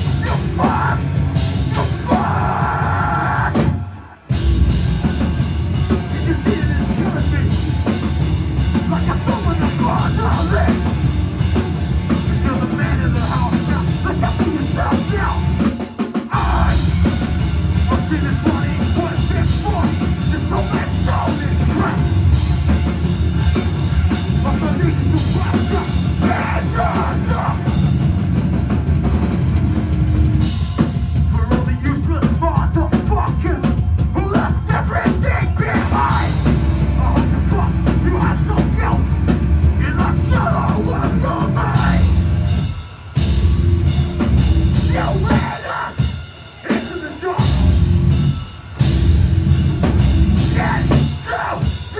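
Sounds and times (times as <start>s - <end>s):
heavy metal band playing live: 0.0s - 51.9s.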